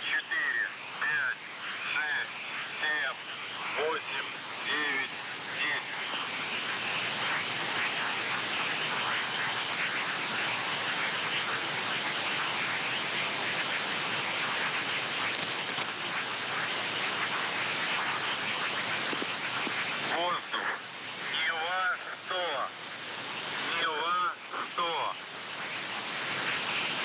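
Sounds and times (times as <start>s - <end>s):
radio static hiss and crackle: 0.0s - 27.0s.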